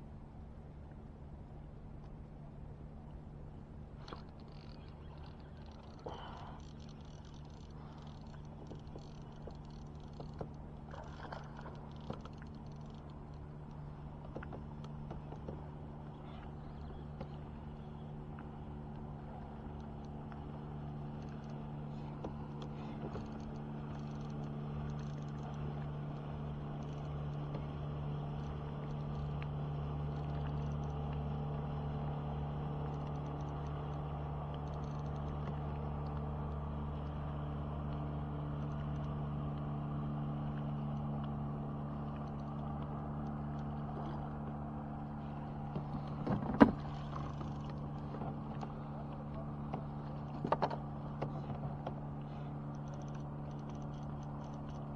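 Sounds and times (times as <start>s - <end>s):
boat motor humming: 0.0s - 54.9s.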